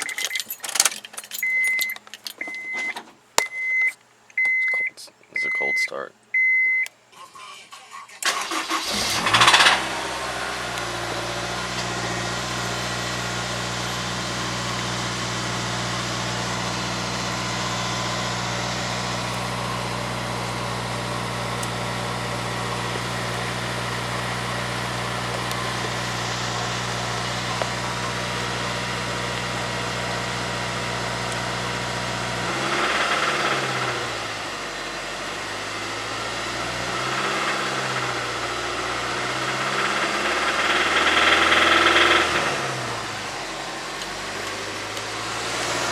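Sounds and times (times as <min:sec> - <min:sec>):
car engine starting and idling: 0:06.4 - 0:45.9
engine revving: 0:08.2 - 0:45.9.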